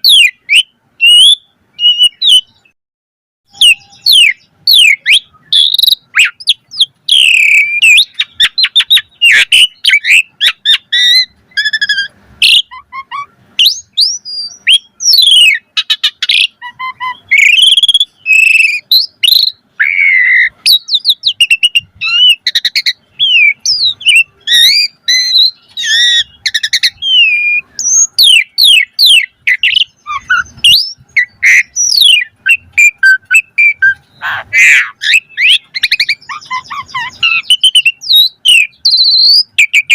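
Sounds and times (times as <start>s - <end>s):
starling singing: 0.0s - 2.8s, 3.5s - 39.9s.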